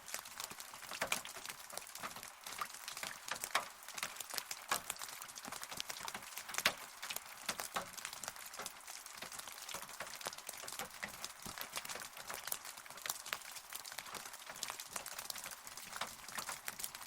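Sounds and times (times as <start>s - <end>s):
raindrops ticking close by: 0.0s - 17.0s
steady rain hiss: 0.0s - 17.0s.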